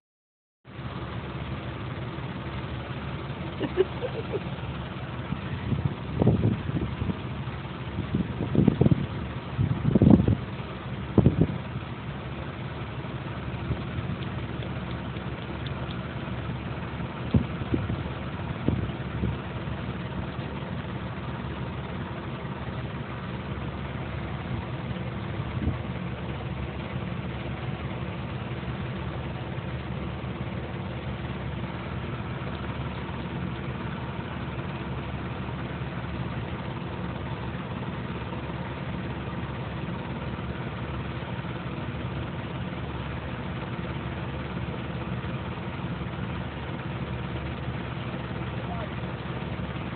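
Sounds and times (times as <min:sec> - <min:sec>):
low mechanical hum: 0:00.7 - 0:49.9.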